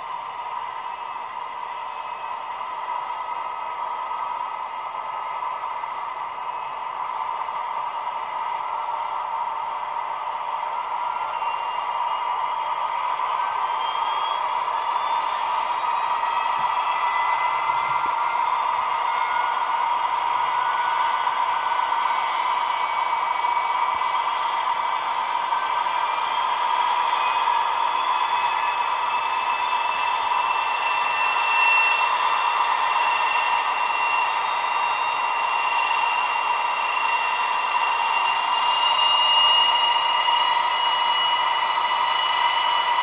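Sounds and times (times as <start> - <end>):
diesel locomotive engine through small speaker: 0.0 - 43.0.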